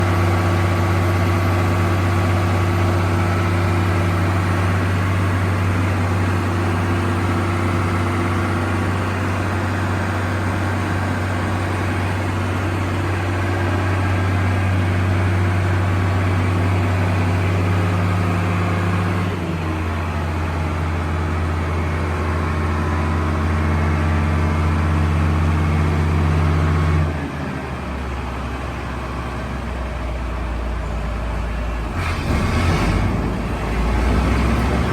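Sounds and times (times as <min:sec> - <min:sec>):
combine diesel engine running: 0:00.0 - 0:34.9.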